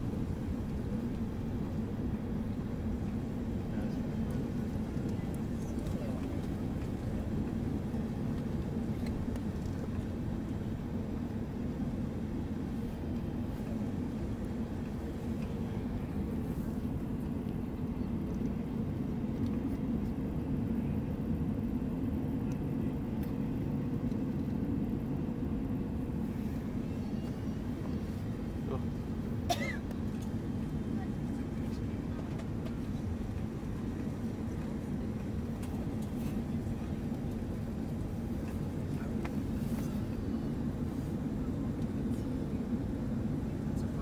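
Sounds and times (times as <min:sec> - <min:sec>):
aircraft engines rumbling: 0:00.0 - 0:44.0.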